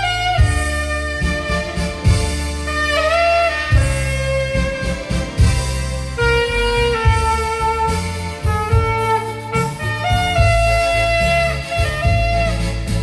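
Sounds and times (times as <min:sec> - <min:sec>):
alto saxophone melody: 0:00.0 - 0:13.0
bass and drum beat: 0:00.0 - 0:13.0
keyboard backing: 0:00.0 - 0:13.0.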